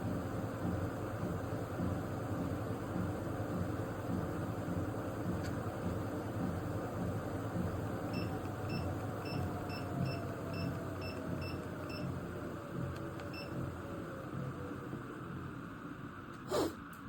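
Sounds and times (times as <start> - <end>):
treadmill motor whine: 0.0 - 17.0.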